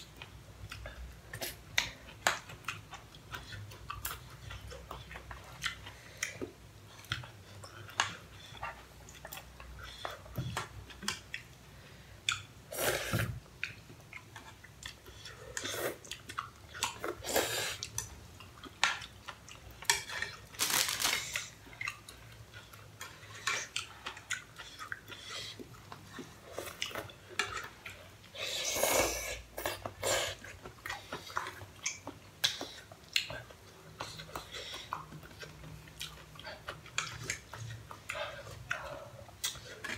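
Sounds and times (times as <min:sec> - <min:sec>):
chewing: 0:00.1 - 0:12.5, 0:13.2 - 0:39.9.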